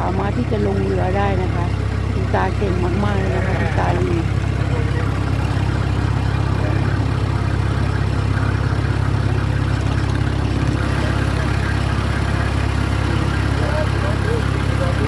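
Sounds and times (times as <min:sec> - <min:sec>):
boat engine humming: 0:00.0 - 0:15.0
wind: 0:00.0 - 0:15.0.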